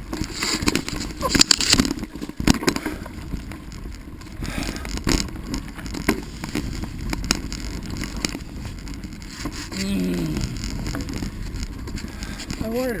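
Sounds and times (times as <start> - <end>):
bicycle knocking and rattling: 0.0 - 13.0
bicycle tyres rumbling on dirt: 0.0 - 13.0.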